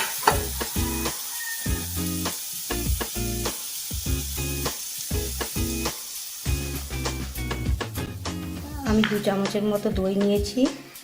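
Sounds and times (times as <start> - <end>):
background music: 0.0 - 11.0
vegetables sizzling in oil: 0.0 - 11.0.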